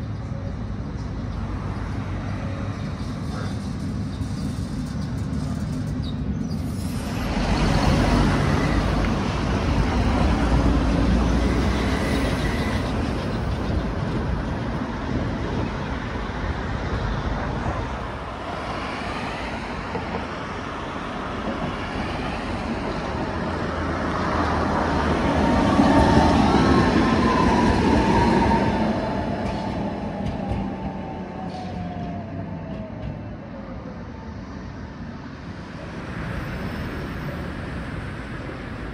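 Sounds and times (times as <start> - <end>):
tram wheels and motors rumbling: 0.0 - 38.9.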